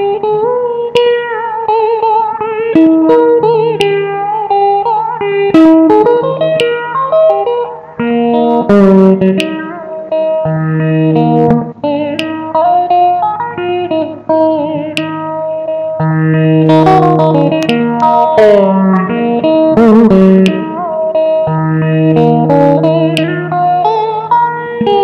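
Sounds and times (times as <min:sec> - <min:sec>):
electric guitar lead melody: 0:00.0 - 0:25.0.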